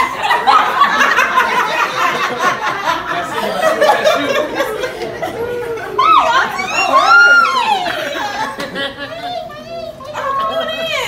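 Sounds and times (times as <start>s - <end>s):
people laughing and chattering: 0.0s - 11.0s.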